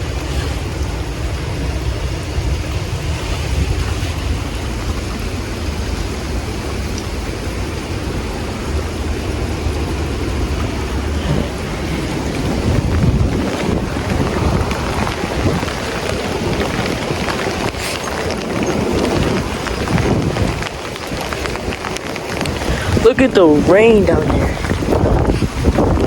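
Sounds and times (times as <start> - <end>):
heavy rain: 0.0 - 26.0
storm wind gusting: 0.0 - 26.0
wind buffeting microphone: 0.0 - 26.0.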